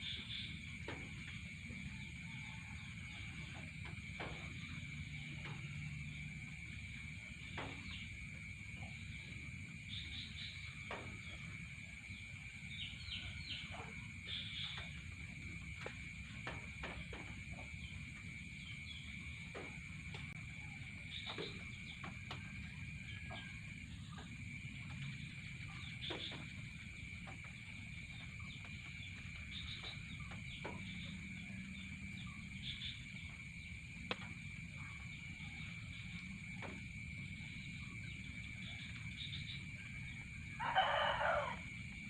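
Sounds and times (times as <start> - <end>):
high-pitched insect whine: 0.0 - 42.0.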